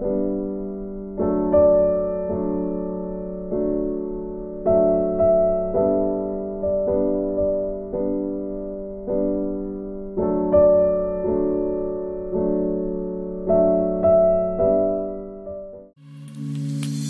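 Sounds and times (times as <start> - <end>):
slow soft piano piece: 0.0 - 17.0.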